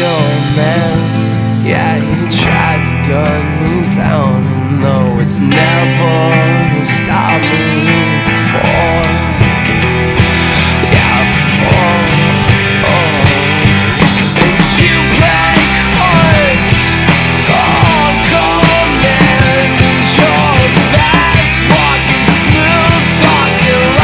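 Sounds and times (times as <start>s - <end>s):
rock band playing: 0.0s - 24.0s
sliding lead melody: 0.0s - 24.0s.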